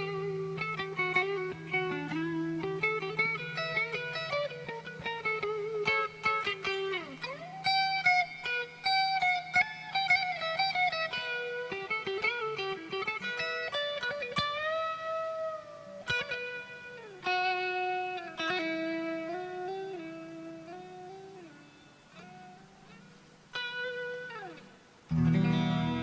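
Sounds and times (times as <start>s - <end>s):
electric guitar lead line: 0.0s - 26.0s.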